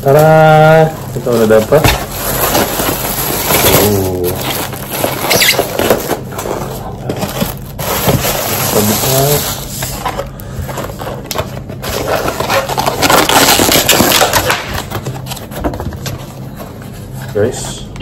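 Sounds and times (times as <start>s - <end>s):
plastic bag rustling and crinkling: 0.0s - 15.5s.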